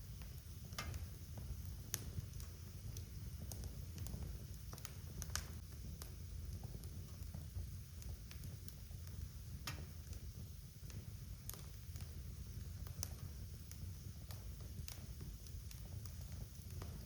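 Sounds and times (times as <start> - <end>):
sharp pops and snaps of fire: 0.0 - 17.0
wood fire crackling: 0.0 - 17.0.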